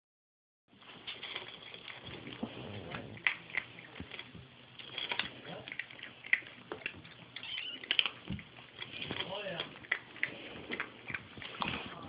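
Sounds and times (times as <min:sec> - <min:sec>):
kittens scuffling and scrabbling: 0:00.8 - 0:12.0.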